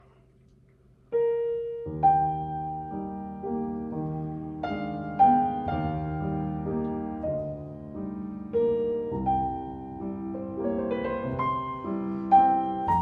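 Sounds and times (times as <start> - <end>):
piano music: 1.2 - 13.0.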